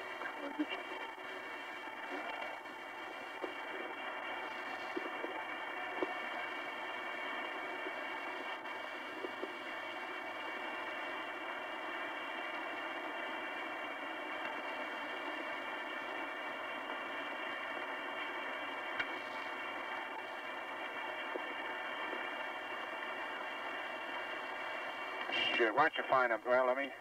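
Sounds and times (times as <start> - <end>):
recording hiss and static: 0.0 - 27.0.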